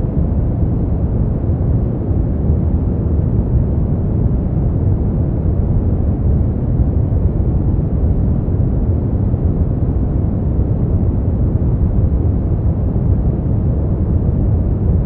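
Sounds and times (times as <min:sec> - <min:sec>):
deep rumbly noise: 0:00.0 - 0:15.0.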